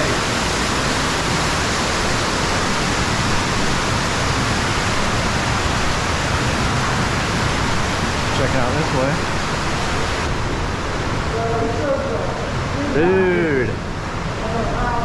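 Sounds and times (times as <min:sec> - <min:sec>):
waterfall pouring in cave: 0:00.0 - 0:15.0.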